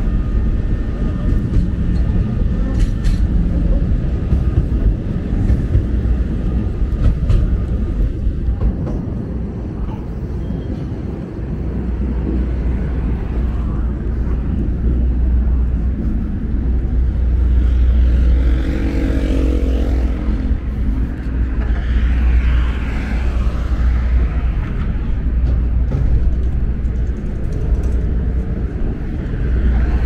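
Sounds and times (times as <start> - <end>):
rumble of passing vehicles: 0.0 - 30.0.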